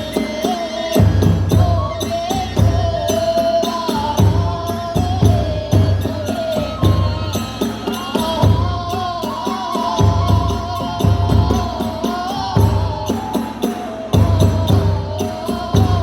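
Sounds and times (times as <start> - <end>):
bamboo flute melody: 0.0 - 16.0
taiko drum beats: 0.0 - 16.0.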